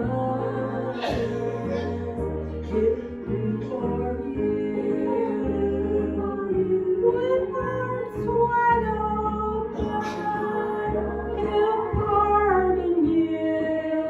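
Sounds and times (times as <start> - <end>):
instrumental accompaniment: 0.0 - 14.0
steady bass notes: 0.0 - 14.0
woman singing into microphone: 0.0 - 14.0.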